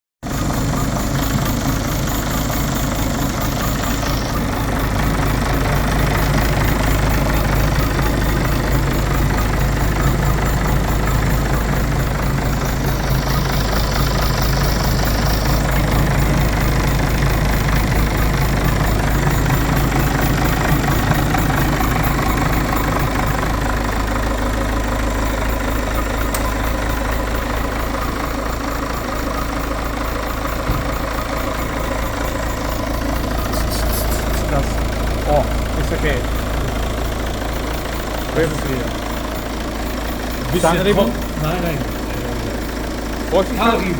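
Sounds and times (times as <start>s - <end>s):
diesel engine running: 0.2s - 43.9s.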